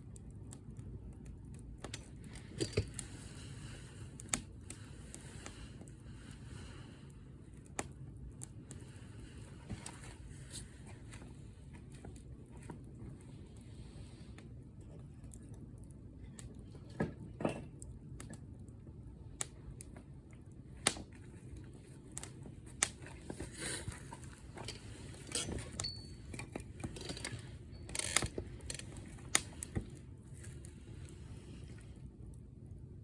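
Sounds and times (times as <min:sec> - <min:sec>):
low steady rumble: 0:00.0 - 0:33.0
wood fire crackling: 0:00.0 - 0:33.0.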